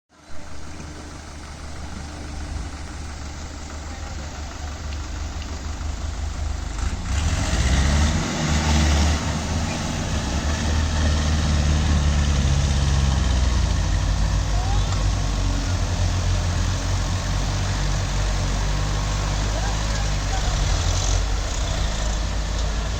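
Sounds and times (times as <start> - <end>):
tractor engine revving: 0.2 - 22.9.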